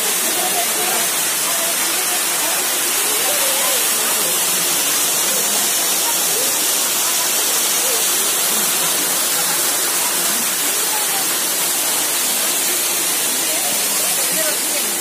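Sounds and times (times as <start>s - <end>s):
waterfall splashing over rocks: 0.0s - 15.0s.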